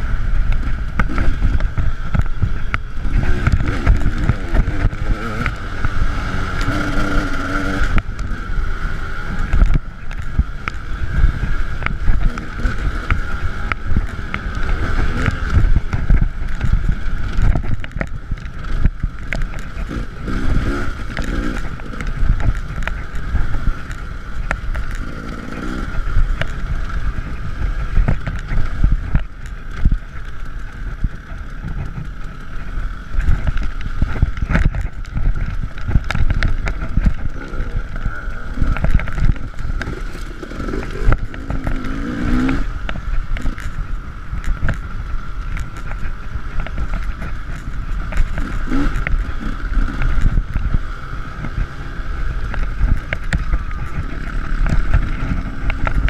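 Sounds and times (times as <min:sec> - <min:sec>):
two-stroke dirt bike engine: 0:00.0 - 0:56.0
wind buffeting: 0:00.0 - 0:56.0.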